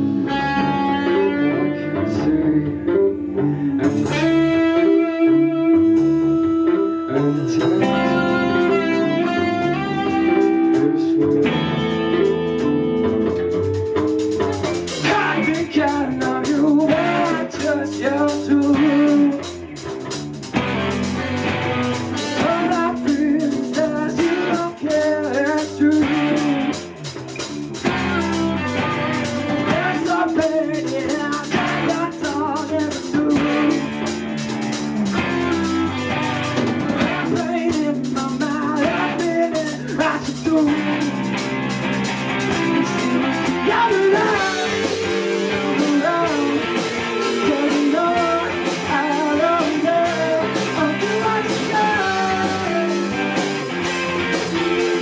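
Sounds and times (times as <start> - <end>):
person singing: 0.0 - 19.7, 21.7 - 27.0, 27.9 - 34.3, 35.0 - 41.4, 42.4 - 55.0
drums: 0.0 - 55.0
electric guitar: 0.0 - 55.0
rock band playing live: 0.0 - 55.0.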